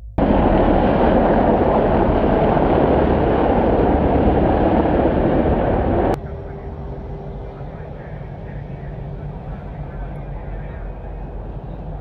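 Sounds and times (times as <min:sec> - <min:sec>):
helicopters flying past: 0:00.2 - 0:12.0.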